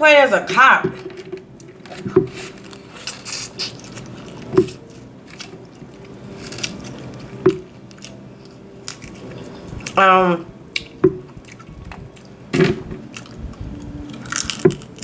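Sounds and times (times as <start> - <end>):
wet chewing: 1.6 - 10.0, 10.7 - 15.0.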